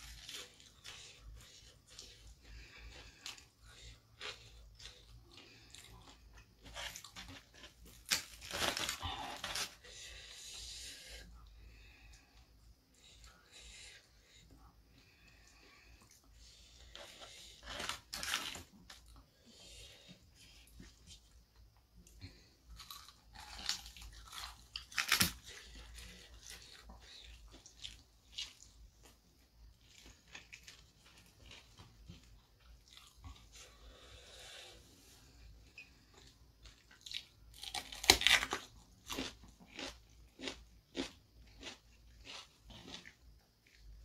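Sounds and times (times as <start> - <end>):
crunchy chewing: 0.0 - 44.0.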